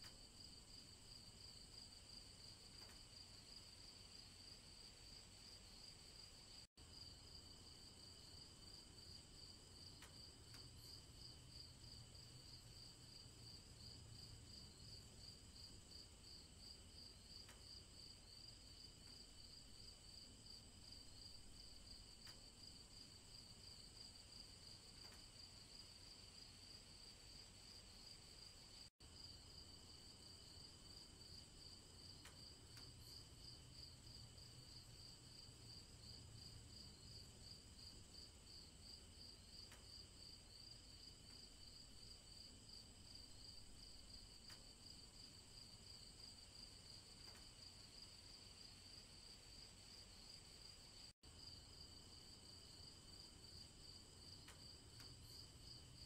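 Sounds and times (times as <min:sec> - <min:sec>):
crickets chirping: 0:00.1 - 0:56.0.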